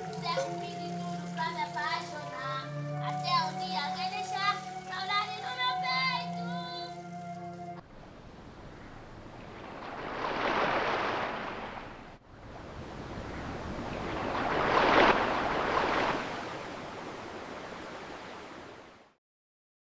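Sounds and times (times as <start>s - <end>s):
waves breaking on shore: 0.0s - 7.2s, 7.8s - 19.2s.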